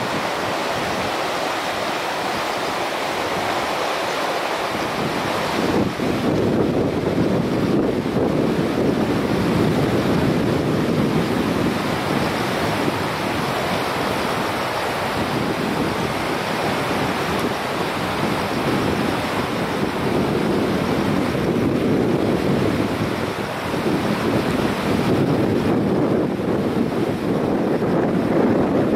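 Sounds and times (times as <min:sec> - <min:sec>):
floodwater roaring: 0:00.0 - 0:28.9
wind buffeting microphone: 0:00.0 - 0:28.9.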